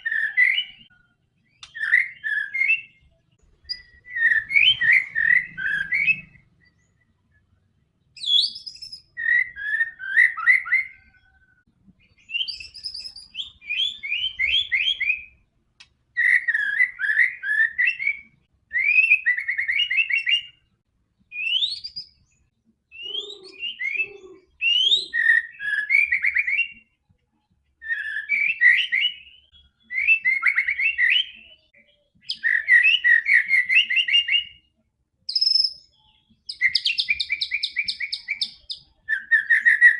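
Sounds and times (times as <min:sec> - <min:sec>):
bird singing whistled trills: 0:00.0 - 0:07.4, 0:08.2 - 0:15.5, 0:16.2 - 0:20.7, 0:21.3 - 0:27.0, 0:27.8 - 0:39.9.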